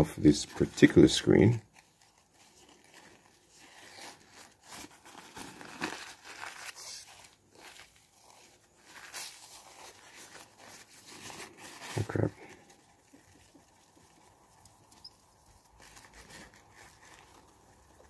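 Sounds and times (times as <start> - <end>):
tissue wiping glass screen: 0.0 - 18.0
tissue crinkling: 0.2 - 18.0.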